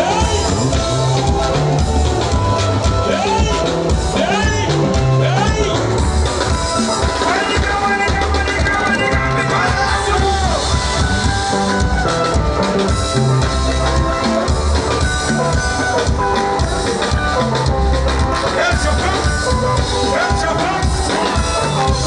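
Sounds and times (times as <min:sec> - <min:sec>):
amplified instrumental music: 0:00.0 - 0:22.0
deep bass beat: 0:00.0 - 0:22.0
drum kit: 0:00.0 - 0:22.0.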